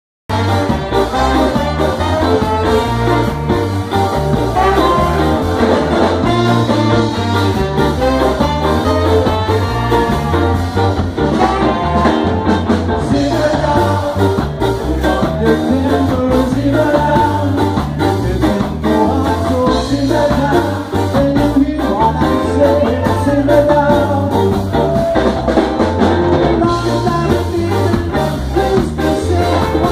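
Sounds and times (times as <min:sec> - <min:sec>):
horn section playing: 0:00.3 - 0:29.9
keyboard: 0:00.3 - 0:29.9
steady beat: 0:00.3 - 0:29.9.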